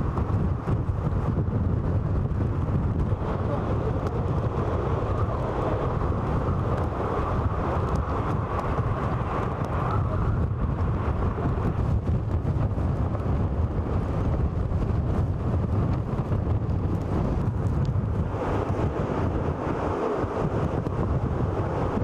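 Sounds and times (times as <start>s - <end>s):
storm wind roaring: 0.0s - 22.0s
wind rumbling on microphone: 0.0s - 22.0s.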